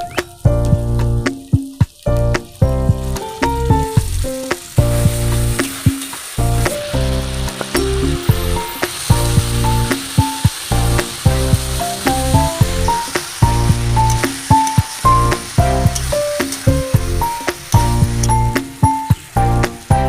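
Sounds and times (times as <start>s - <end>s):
background music with low beat: 0.0s - 20.0s
food sizzling in hot oil: 0.0s - 20.0s.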